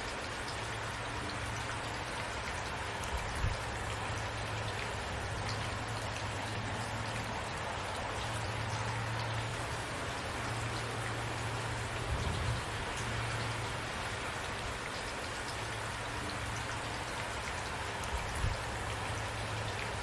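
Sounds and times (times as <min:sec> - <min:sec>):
rain falling: 0:00.0 - 0:20.0
raindrops ticking: 0:00.0 - 0:20.0.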